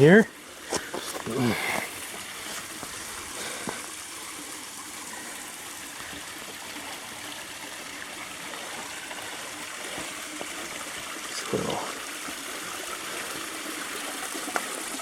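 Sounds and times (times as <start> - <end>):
creek water flowing over rocks: 0.0 - 15.0.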